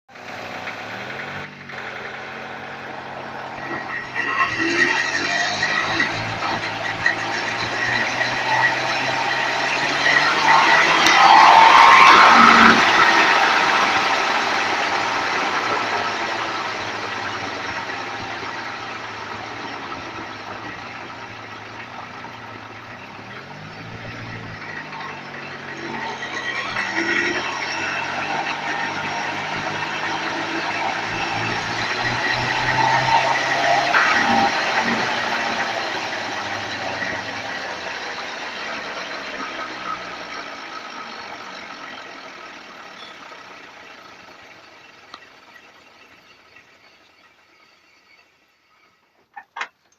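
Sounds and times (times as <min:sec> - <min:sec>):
wheel bearing whirring: 0:00.1 - 0:49.9.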